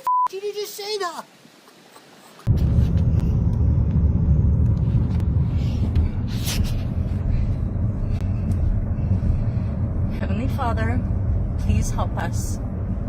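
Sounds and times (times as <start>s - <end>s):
storm low rumble: 2.5s - 13.0s.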